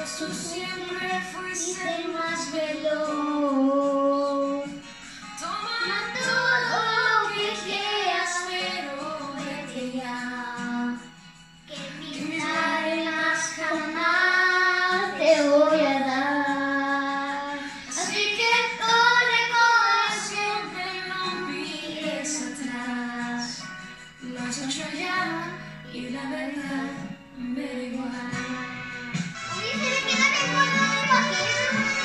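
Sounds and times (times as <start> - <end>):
girl singing into microphone: 0.0 - 4.8, 5.4 - 11.1, 11.7 - 28.9
pop backing track: 0.0 - 32.0.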